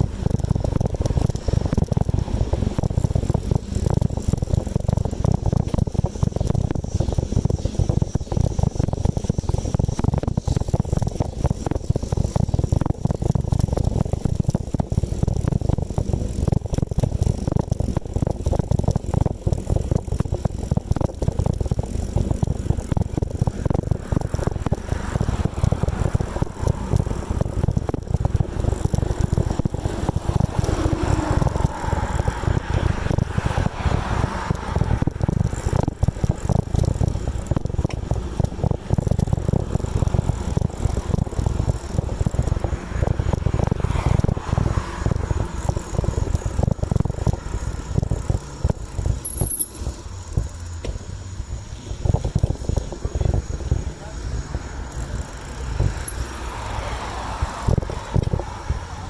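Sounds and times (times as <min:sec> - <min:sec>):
wind buffeting microphone: 0:00.0 - 0:49.3
bicycle rattling over road: 0:00.0 - 0:59.0.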